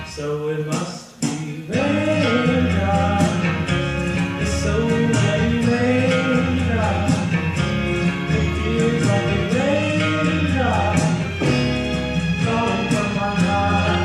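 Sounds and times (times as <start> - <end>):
guitar accompaniment: 0.0 - 14.0
person singing: 0.0 - 14.0.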